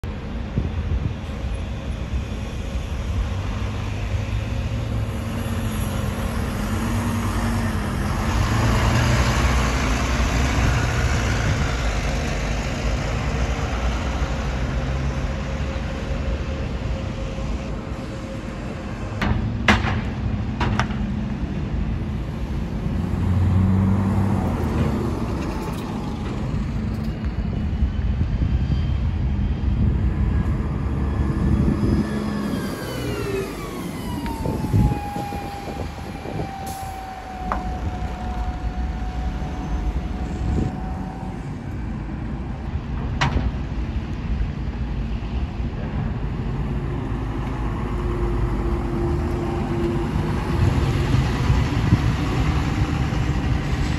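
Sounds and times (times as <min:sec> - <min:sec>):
bus engines pulling away: 0:00.1 - 0:53.9.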